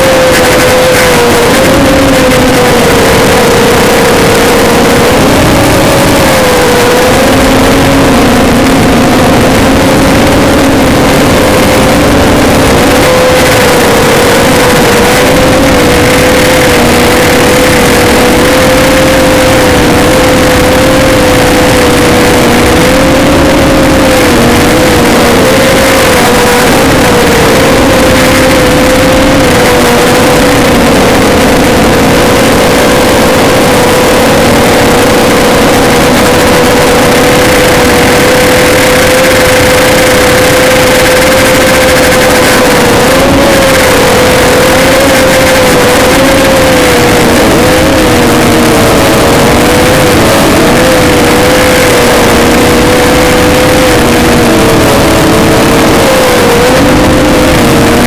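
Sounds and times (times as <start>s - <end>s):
quadcopter motors humming: 0.0s - 58.0s
rushing noise: 0.0s - 58.0s.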